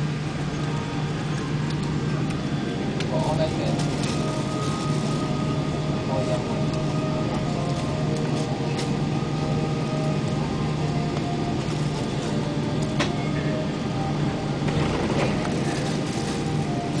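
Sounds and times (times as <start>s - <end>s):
airliner cabin hum: 0.0s - 17.0s.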